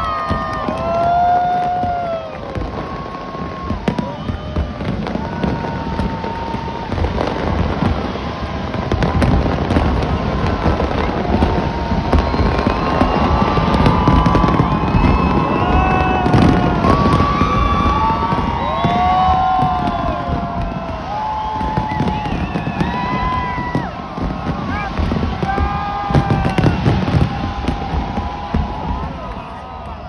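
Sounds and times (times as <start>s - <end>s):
fireworks cracking and popping: 0.0s - 30.0s.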